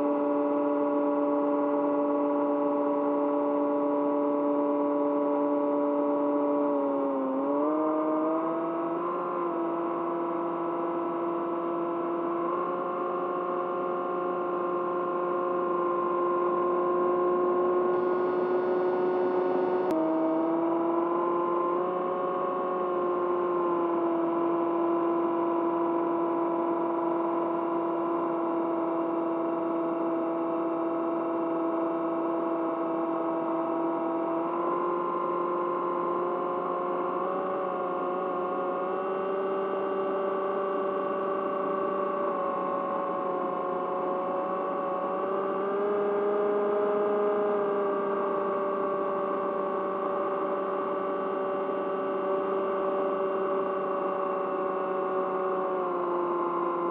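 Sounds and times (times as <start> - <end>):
electric motor and propeller whine: 0.0 - 56.9.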